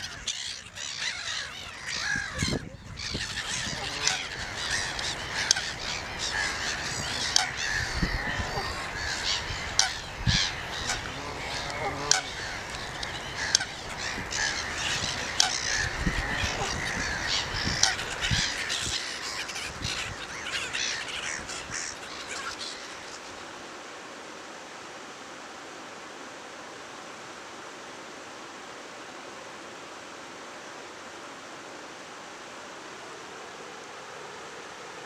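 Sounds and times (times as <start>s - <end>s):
steady hiss: 3.0s - 35.0s.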